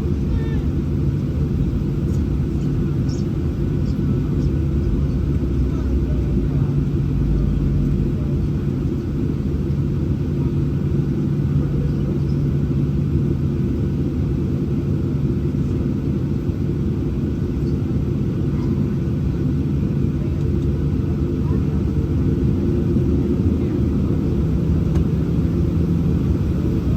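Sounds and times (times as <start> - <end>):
constant low hum: 0.0 - 26.9
jet engine rumble in cabin: 0.0 - 26.9.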